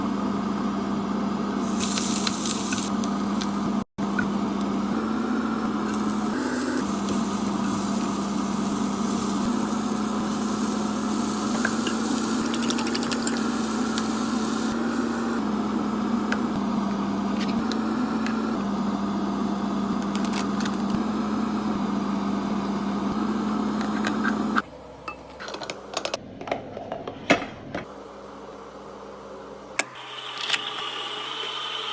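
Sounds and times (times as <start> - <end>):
microwave oven humming: 0.0 - 31.9.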